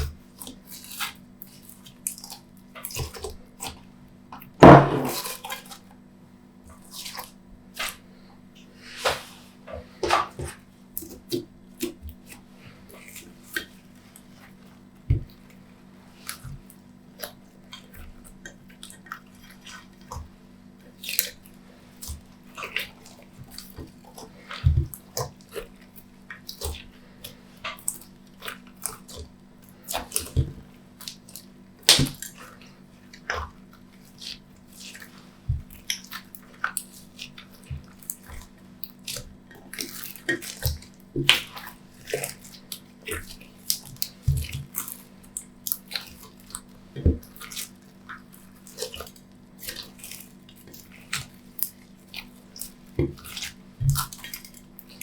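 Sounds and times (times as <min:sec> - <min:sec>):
slime squelching by hand: 0:06.7 - 0:55.0.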